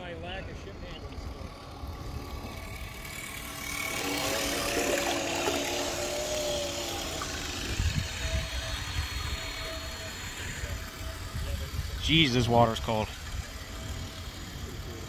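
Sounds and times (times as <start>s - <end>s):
electric motors whining: 0.0s - 15.0s
water rushing along hull: 1.1s - 15.0s.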